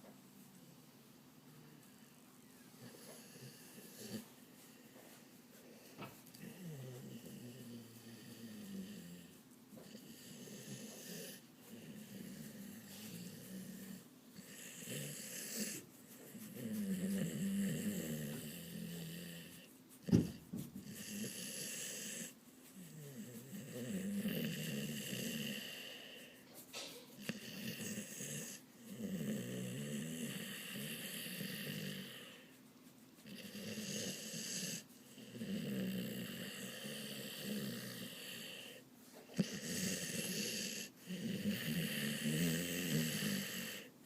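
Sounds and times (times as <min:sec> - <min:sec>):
dog snoring: 0:02.8 - 0:04.3, 0:06.1 - 0:26.4, 0:27.1 - 0:32.6, 0:33.2 - 0:43.9.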